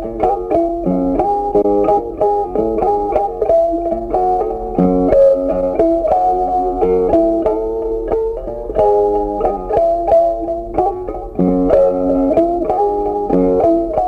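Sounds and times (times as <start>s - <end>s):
guitar plucking a melody: 0.0s - 14.0s.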